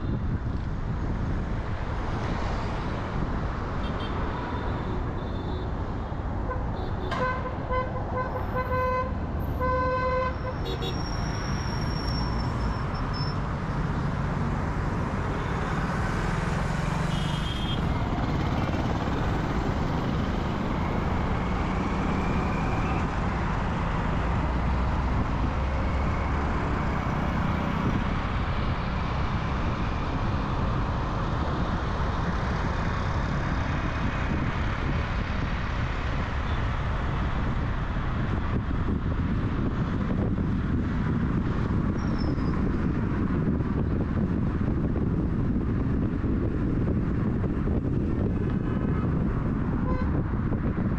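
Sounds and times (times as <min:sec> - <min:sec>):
car driving in traffic: 0:00.0 - 0:50.9.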